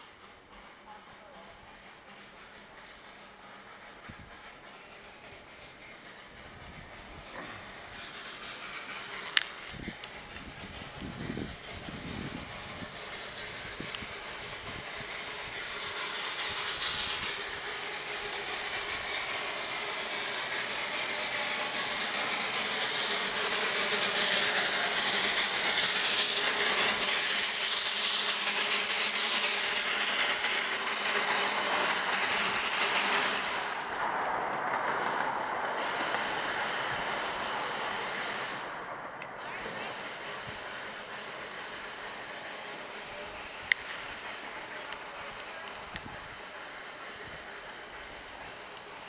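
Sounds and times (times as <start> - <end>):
small train passing: 0.0 - 49.0.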